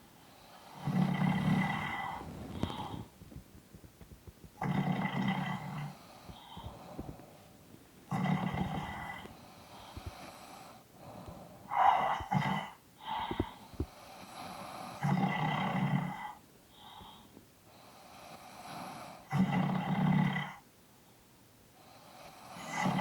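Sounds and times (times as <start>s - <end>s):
quiet breathing: 0.0s - 23.0s
people snoring: 0.4s - 3.1s, 4.6s - 7.3s, 8.1s - 17.2s, 17.8s - 20.6s, 21.8s - 23.0s.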